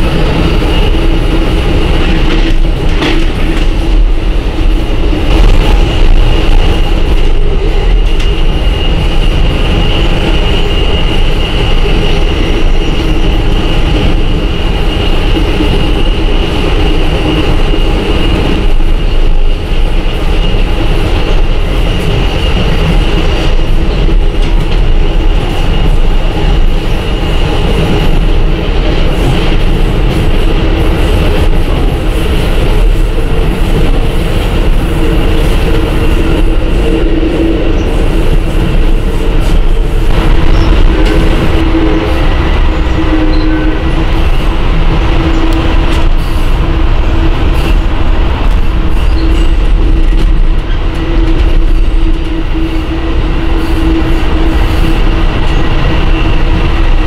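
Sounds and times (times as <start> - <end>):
train rumble and rail noise: 0.0 - 57.0.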